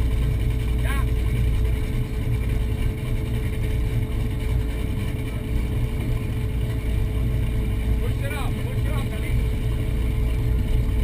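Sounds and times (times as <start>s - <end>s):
boat engines idling: 0.0s - 11.0s.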